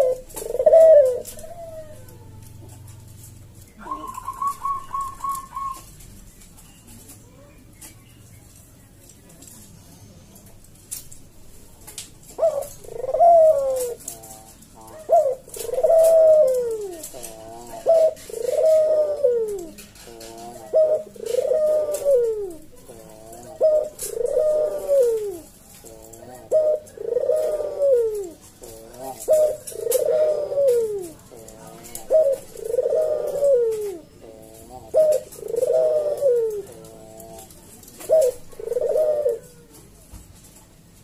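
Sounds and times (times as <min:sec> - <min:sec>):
dove cooing: 0:00.0 - 0:06.4, 0:11.9 - 0:40.0.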